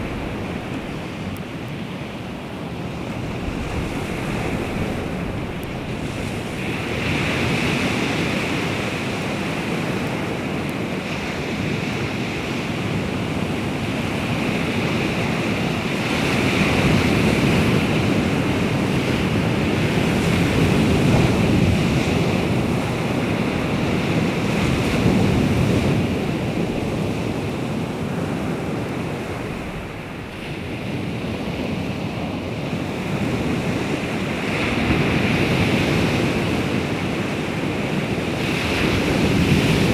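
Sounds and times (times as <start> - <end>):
sea waves washing on shore: 0.0 - 39.9
wind buffeting microphone: 0.0 - 39.9.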